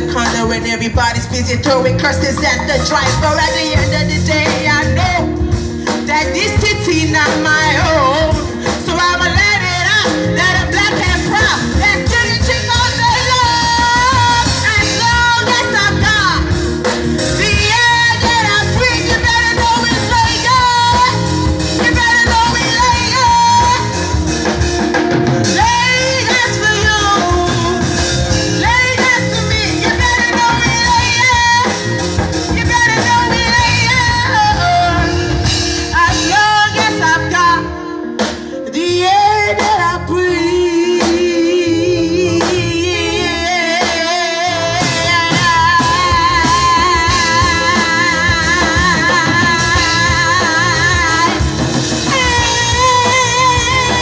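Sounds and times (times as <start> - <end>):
woman singing: 0.0 - 24.6, 25.4 - 54.0
live band playing: 0.0 - 54.0.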